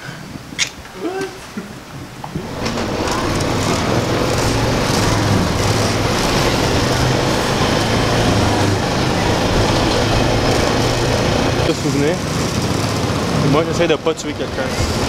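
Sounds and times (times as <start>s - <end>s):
road and wind noise: 0.0s - 15.0s
quad bike engine hum: 2.3s - 15.0s.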